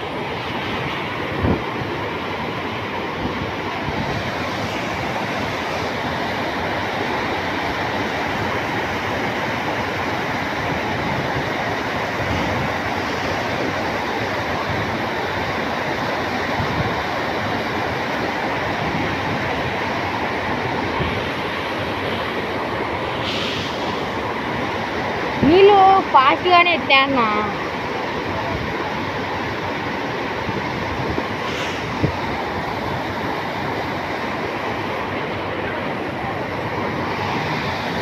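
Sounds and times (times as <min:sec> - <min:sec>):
water rushing through dam gates: 0:00.0 - 0:38.0.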